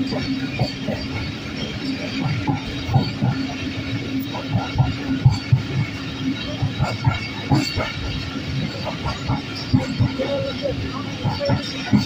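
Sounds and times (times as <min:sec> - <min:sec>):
train wheels knocking over rail joints: 0:00.0 - 0:12.0.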